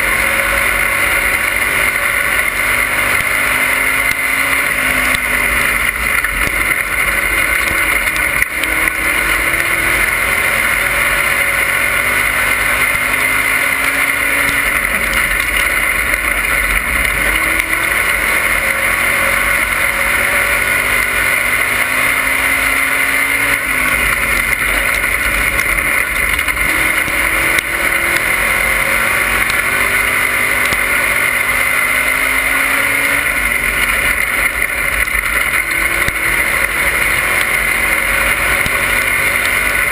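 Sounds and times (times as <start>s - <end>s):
heavy rushing noise: 0.0s - 39.9s
race car engine running hard: 0.0s - 39.9s.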